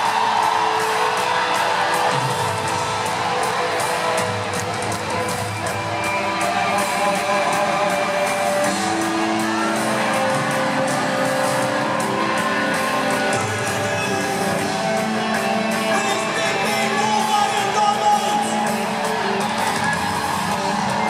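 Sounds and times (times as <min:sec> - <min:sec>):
live band music through pa: 0:00.0 - 0:21.0.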